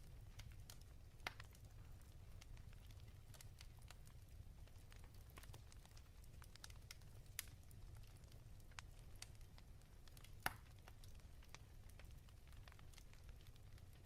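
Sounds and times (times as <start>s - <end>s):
fireplace crackling: 0.0s - 14.0s.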